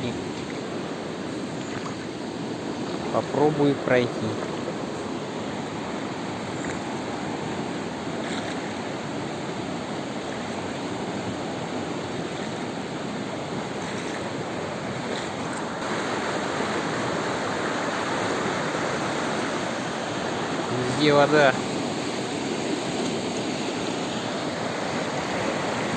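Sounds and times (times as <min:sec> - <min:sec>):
fast-flowing river rushing: 0:00.0 - 0:25.9.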